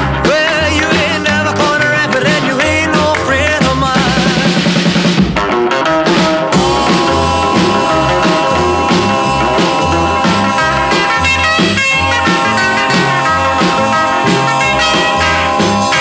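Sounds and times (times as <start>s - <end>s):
rock and roll backing track: 0.0s - 16.0s.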